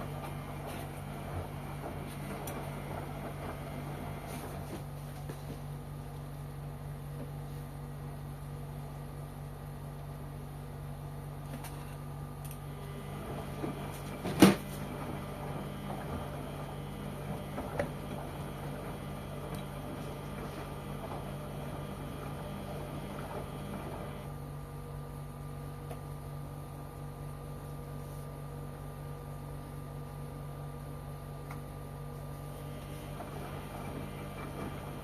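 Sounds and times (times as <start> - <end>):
washing machine hum: 0.0 - 35.0.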